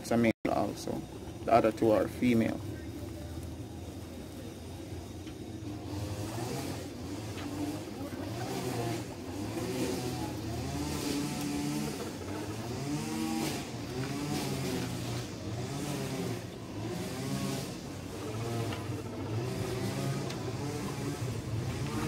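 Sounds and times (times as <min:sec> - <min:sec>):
engine revving: 0:00.6 - 0:22.0.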